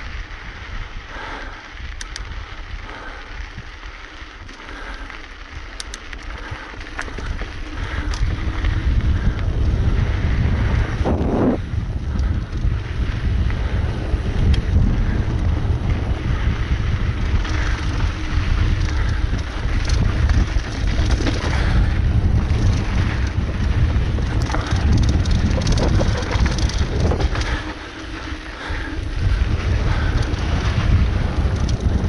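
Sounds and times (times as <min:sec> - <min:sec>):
bike rattling clicks: 0:00.0 - 0:32.0
wind rumbling over microphone: 0:00.0 - 0:32.0.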